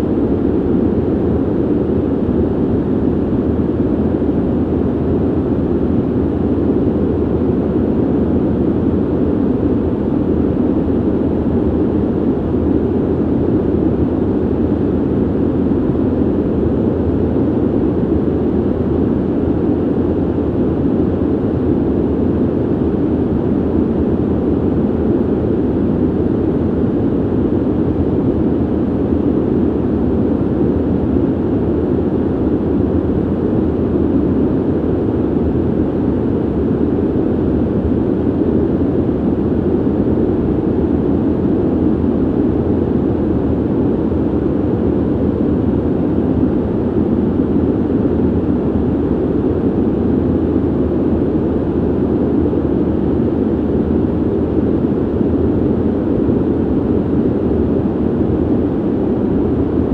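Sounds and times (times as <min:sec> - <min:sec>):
ventilation air rushing: 0:00.0 - 0:59.9.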